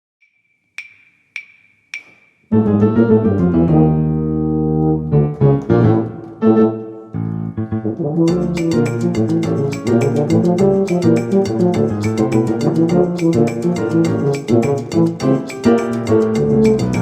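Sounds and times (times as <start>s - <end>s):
piano chords: 2.5s - 17.0s.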